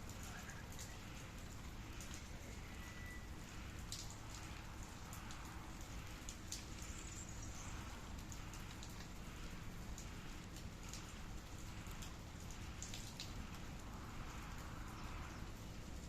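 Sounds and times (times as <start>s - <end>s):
raindrops ticking: 0.0s - 16.0s
steady rain: 0.0s - 16.0s.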